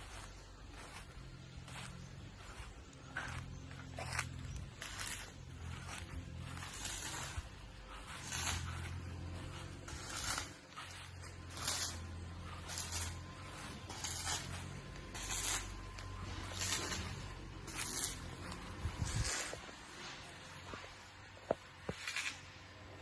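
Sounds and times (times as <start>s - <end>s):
crunching footsteps: 0.0s - 23.0s
steady low hum: 0.0s - 23.0s.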